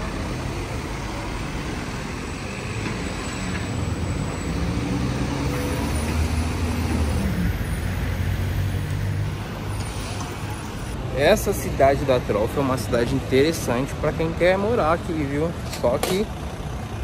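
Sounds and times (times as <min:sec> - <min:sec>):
cars and trucks driving past: 0:00.0 - 0:17.0.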